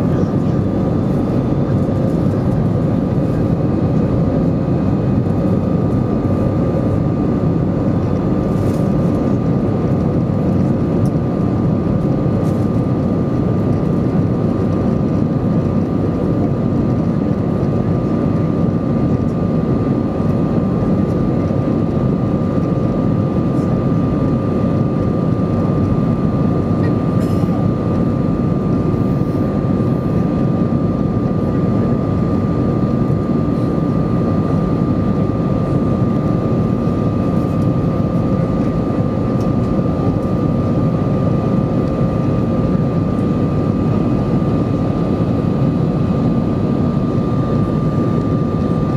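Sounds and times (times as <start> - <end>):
jet engine rumble: 0.0 - 48.9
thin steady whine: 0.0 - 48.9.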